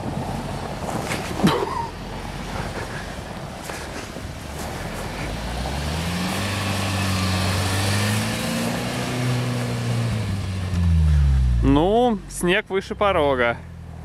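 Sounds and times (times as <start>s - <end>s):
suv engine pulling hard: 0.0s - 14.0s.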